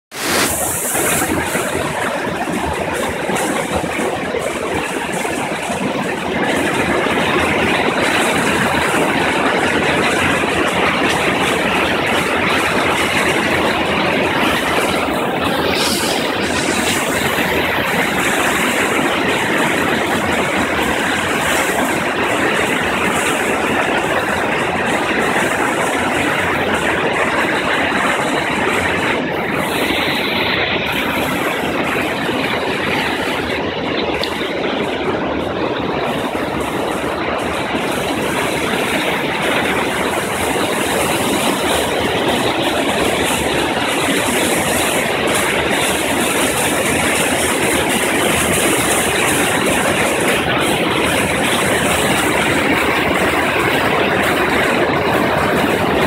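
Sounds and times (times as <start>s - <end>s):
river water rushing over rock: 0.1s - 56.0s.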